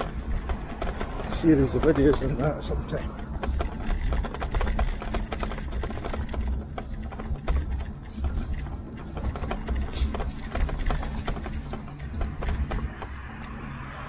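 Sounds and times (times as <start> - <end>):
bike clicking and rattling: 0.0 - 14.0.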